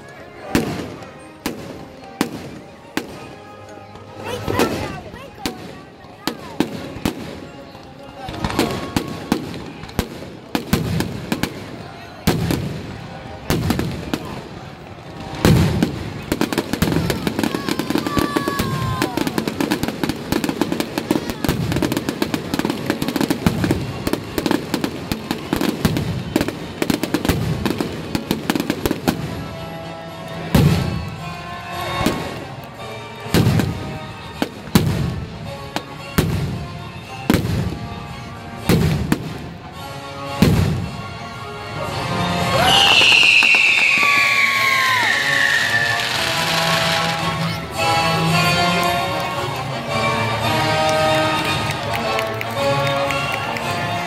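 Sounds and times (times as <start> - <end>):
fireworks bangs and crackle: 0.0 - 41.3, 41.9 - 54.0.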